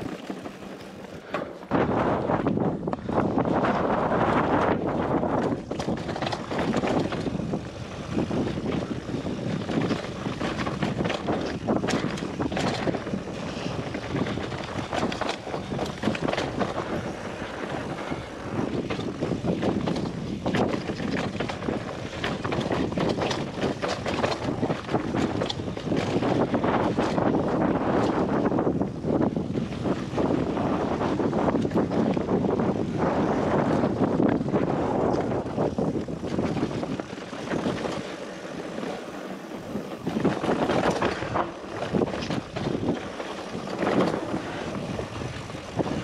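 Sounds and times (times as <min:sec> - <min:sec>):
bike rolling on gravel: 0:00.0 - 0:46.0
wind buffeting microphone: 0:00.0 - 0:46.0.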